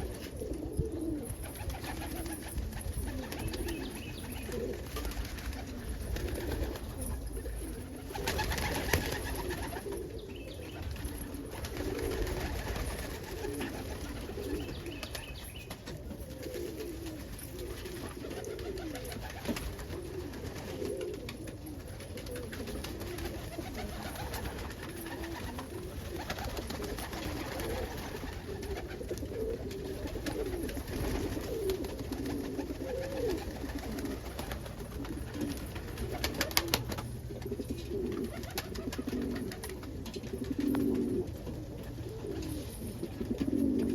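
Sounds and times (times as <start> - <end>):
pigeon cooing: 0.0 - 43.9.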